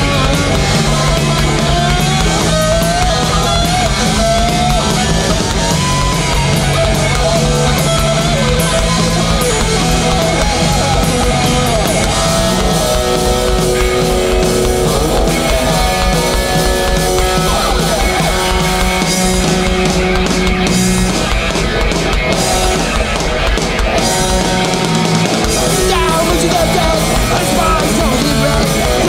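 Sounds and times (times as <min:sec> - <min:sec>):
bass guitar: 0:00.0 - 0:29.0
distorted electric guitars: 0:00.0 - 0:29.0
drum kit: 0:00.0 - 0:29.0
pitch-bending guitar line: 0:00.0 - 0:29.0.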